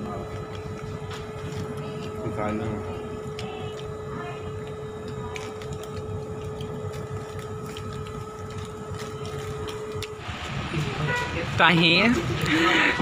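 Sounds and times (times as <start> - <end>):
low room rumble: 0.0 - 13.0
steady machine hum: 0.0 - 13.0.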